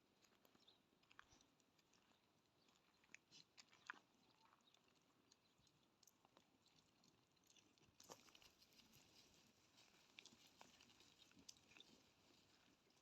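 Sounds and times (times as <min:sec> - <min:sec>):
faint small clicks and crunches: 0:00.0 - 0:13.0.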